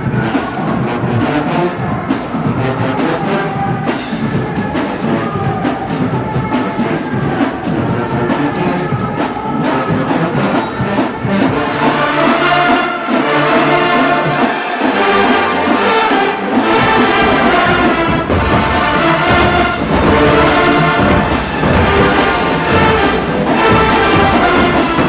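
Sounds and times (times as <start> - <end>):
brass section playing loud chords: 0.0 - 25.0
marching drums: 0.0 - 25.0.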